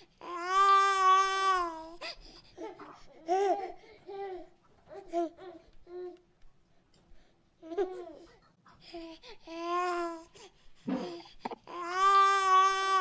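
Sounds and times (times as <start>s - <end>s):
baby babbling and cooing: 0.2s - 6.2s, 7.6s - 13.0s.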